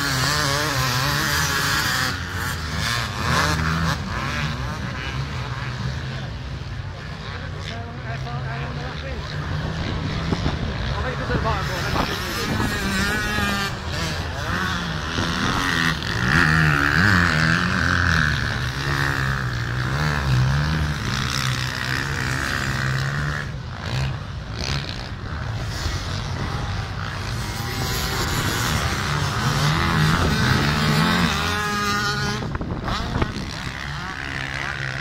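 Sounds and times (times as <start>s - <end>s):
racing motorcycle engines revving: 0.0s - 35.0s.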